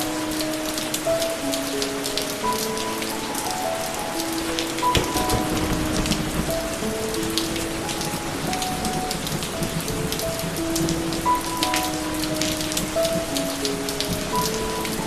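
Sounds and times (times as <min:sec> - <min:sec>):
slow melody of held notes: 0:00.0 - 0:15.0
steady rain: 0:00.0 - 0:15.0.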